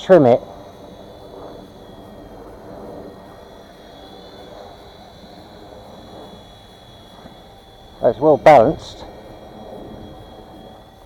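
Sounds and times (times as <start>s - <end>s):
helicopter motor and rotor whine: 0.0s - 11.0s
low wind rumble: 0.0s - 11.0s.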